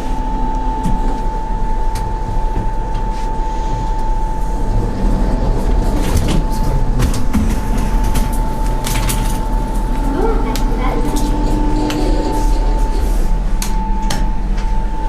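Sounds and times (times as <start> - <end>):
elevator speaker steady tone: 0.0 - 15.0
low rumble: 0.0 - 15.0.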